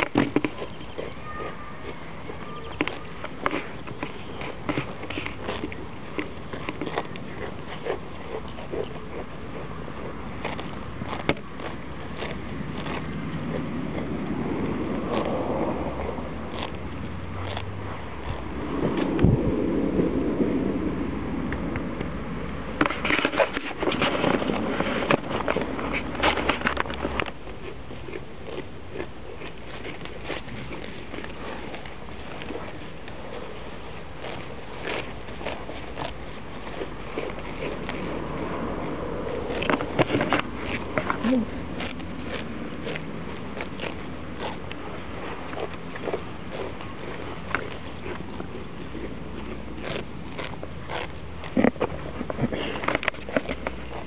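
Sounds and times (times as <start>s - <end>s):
goats tearing and chewing grass: 0.0s - 54.0s.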